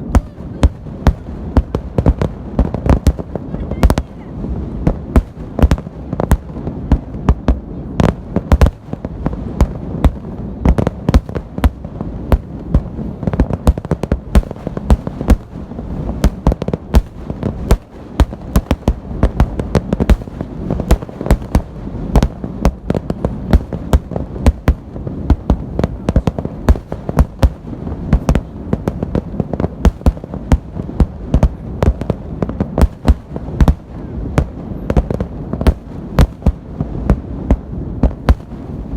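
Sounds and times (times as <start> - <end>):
continuous low rumble: 0.0 - 38.9.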